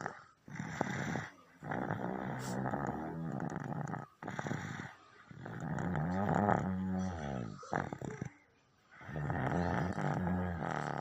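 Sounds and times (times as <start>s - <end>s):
baby snoring: 0.0s - 8.3s, 9.1s - 11.0s.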